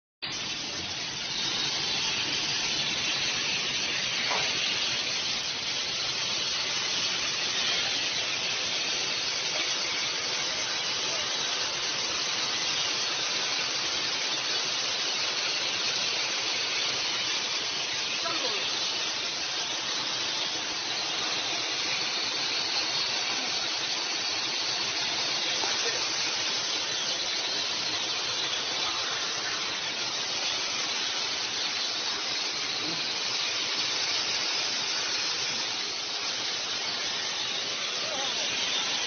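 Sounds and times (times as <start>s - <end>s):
compressed air hissing from brakes: 0.2s - 39.0s.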